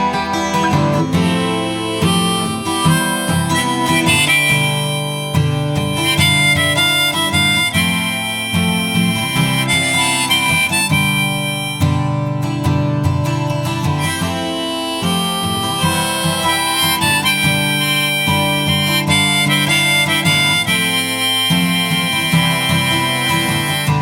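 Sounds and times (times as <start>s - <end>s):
harmonica melody: 0.0s - 24.0s
strummed acoustic guitar: 0.0s - 24.0s.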